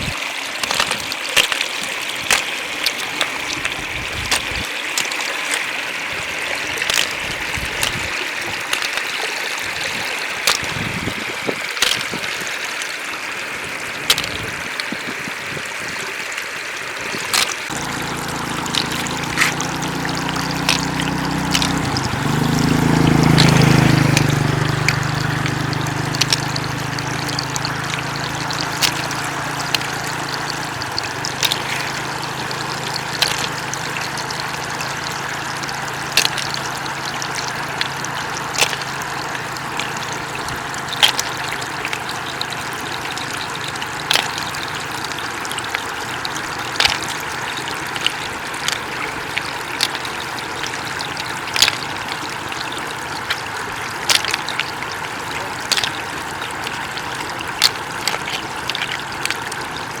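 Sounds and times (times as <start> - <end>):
floodwater trickling: 0.0 - 60.0
sharp water splashes: 0.0 - 60.0.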